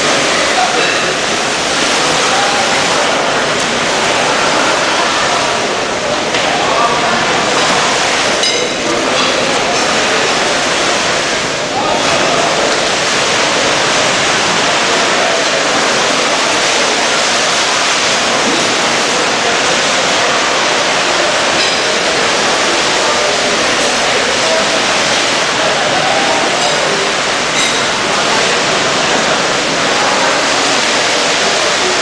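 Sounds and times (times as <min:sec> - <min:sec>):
water rushing in a pool: 0:00.0 - 0:32.0.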